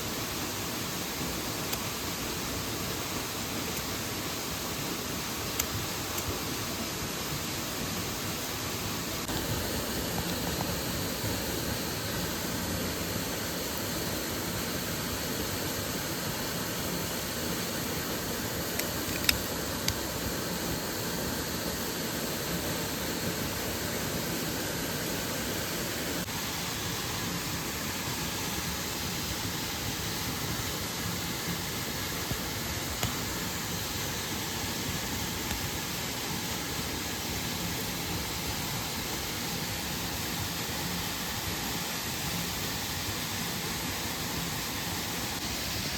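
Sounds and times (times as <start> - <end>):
waterfall and stream rushing: 0.0 - 45.9.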